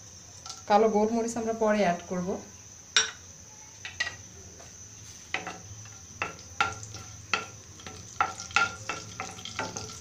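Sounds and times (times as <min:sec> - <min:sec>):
spices frying in oil: 0:00.0 - 0:01.8, 0:02.6 - 0:10.0.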